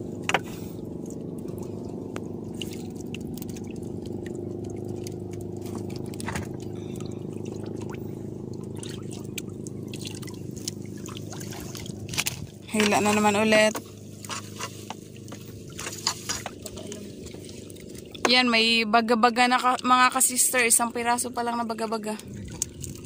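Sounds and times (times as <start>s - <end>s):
water lapping against boat hull: 0.0s - 23.0s.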